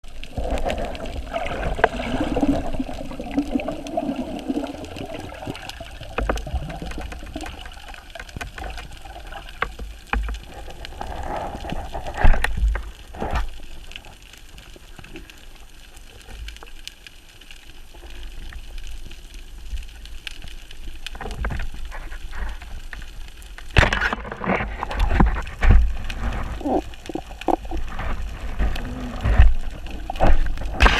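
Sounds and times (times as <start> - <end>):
rough sea water sloshing: 0.0 - 15.0, 21.1 - 30.9.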